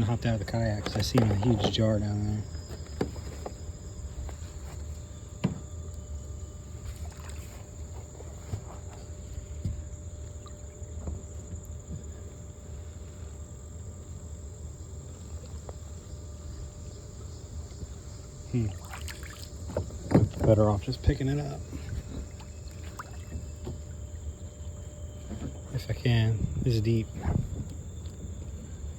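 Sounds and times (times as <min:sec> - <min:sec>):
water swishing and sloshing: 0:00.0 - 0:12.9, 0:14.2 - 0:28.9
high insect trill: 0:00.0 - 0:28.9.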